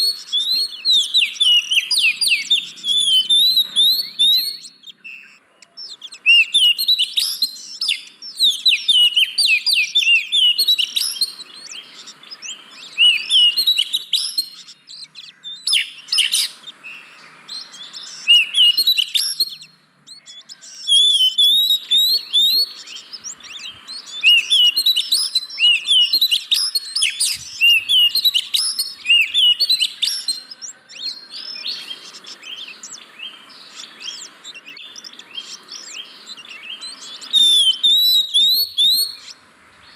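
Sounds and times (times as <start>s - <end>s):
bird chirping and whistling: 0.0s - 39.4s.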